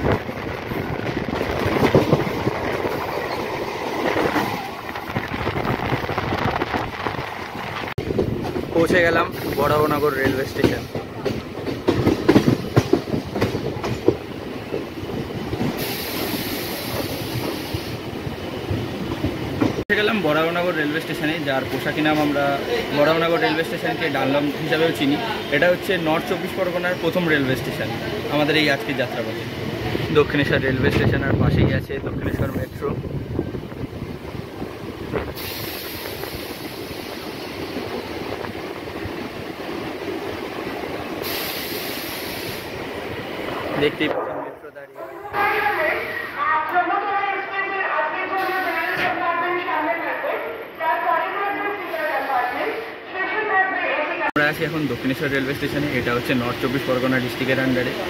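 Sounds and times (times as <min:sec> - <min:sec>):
train rumble: 0:00.0 - 0:47.2.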